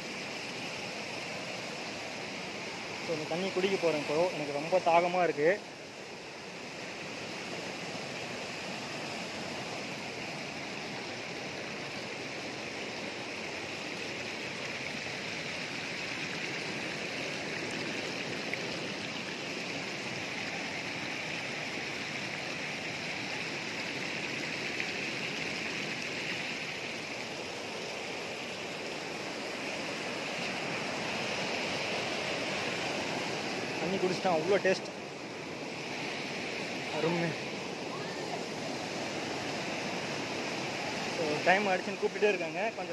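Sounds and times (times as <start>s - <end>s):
stream water running over rock: 0.0s - 42.9s.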